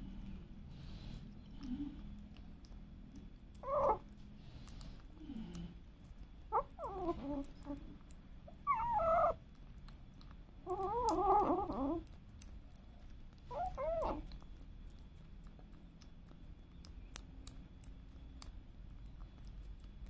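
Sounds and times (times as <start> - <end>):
wet licking clicks: 1.3 - 8.3, 9.4 - 20.0.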